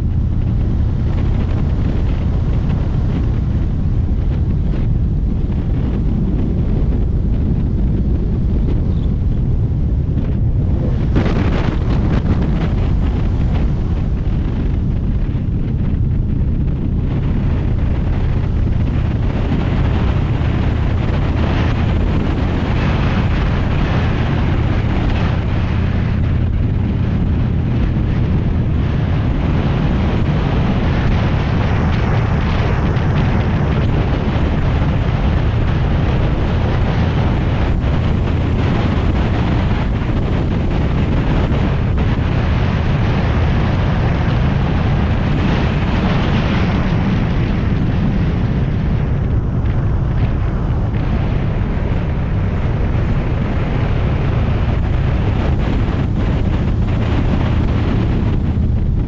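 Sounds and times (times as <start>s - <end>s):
motorcycle engine cruising: 0.0s - 59.0s
wind rushing over microphone: 0.0s - 59.0s.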